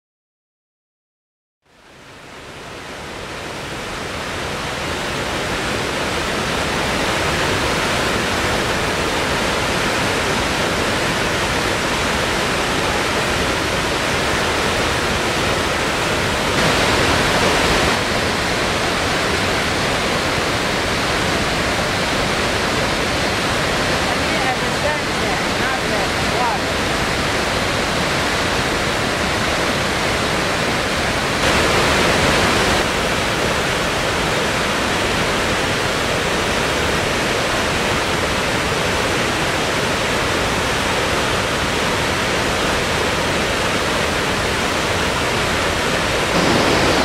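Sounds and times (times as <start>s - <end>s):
water rushing over spillway: 1.8s - 47.0s.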